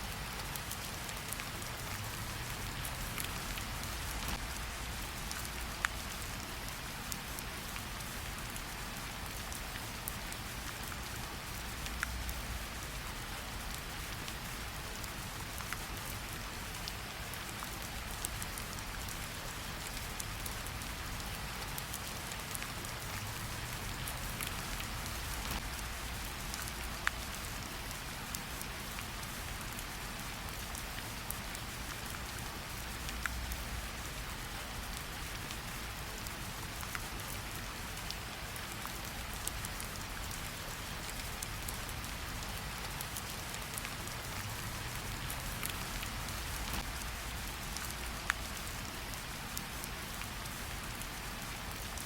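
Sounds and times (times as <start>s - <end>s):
rain pattering on leaves: 0.0s - 52.0s.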